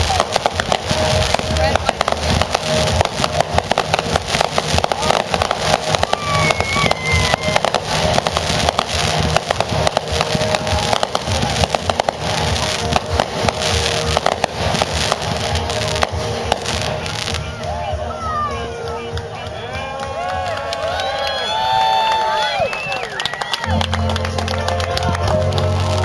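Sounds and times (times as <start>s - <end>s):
fireworks bangs and crackles: 0.0s - 22.6s, 23.6s - 26.0s
music: 0.0s - 26.0s.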